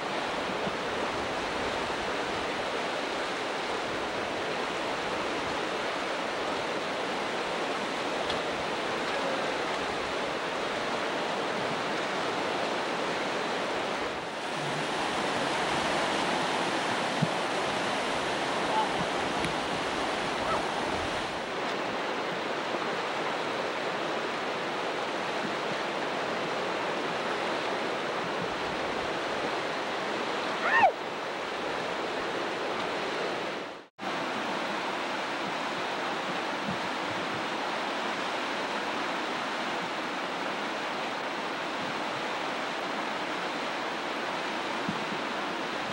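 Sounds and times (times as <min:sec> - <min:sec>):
whitewater rushing: 0:00.0 - 0:45.9.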